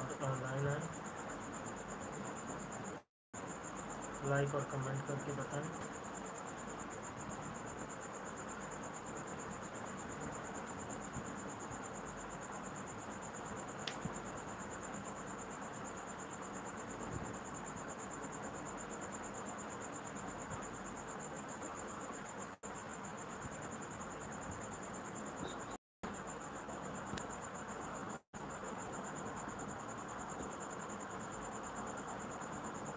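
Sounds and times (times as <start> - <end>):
cricket trilling: 0.0 - 32.9
steady low hiss: 0.0 - 32.9.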